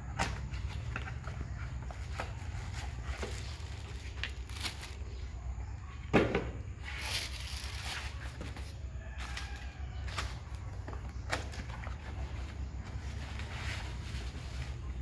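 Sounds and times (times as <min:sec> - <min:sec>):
cardboard and plastic rustling: 0:00.0 - 0:15.0.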